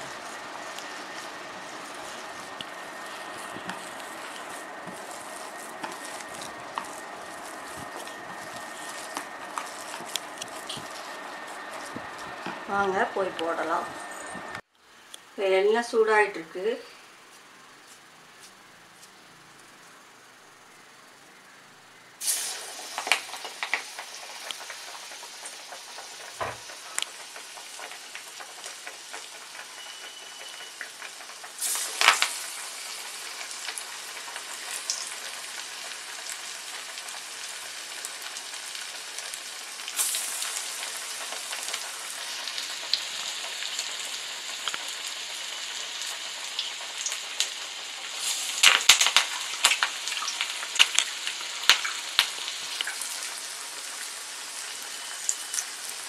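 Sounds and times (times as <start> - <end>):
sharp crackles and pops: 0.0 - 13.8, 22.2 - 56.0
oil sizzling while deep-frying: 0.0 - 18.5, 22.2 - 56.0.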